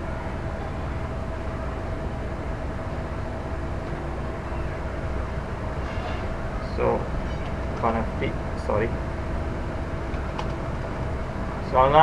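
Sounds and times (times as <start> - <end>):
background hum and hiss: 0.0 - 12.0.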